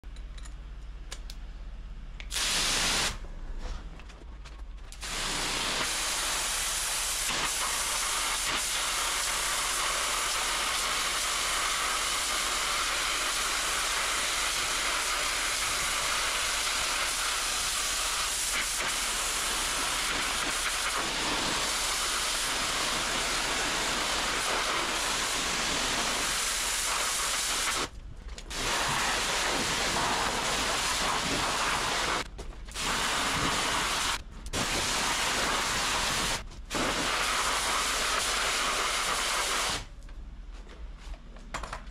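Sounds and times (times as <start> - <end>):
pressure washer spraying: 2.3 - 3.2, 5.0 - 27.9, 28.5 - 39.9.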